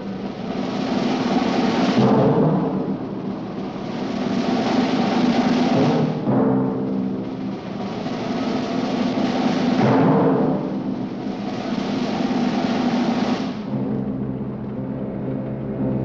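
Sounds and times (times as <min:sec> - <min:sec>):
timpani and drums: 0:00.0 - 0:16.0
orchestral theme music: 0:00.7 - 0:16.0.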